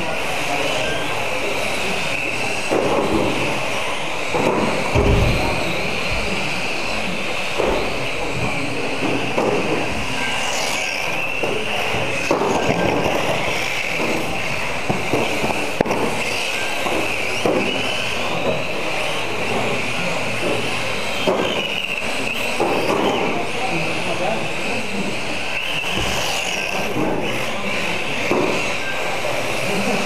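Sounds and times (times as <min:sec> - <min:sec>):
toy car motors whining: 0:00.0 - 0:30.0.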